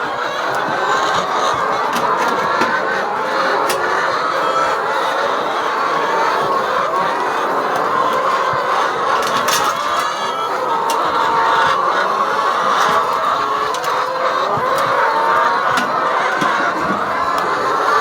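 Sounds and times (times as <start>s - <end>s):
flock of chickens clucking: 0.0s - 18.0s.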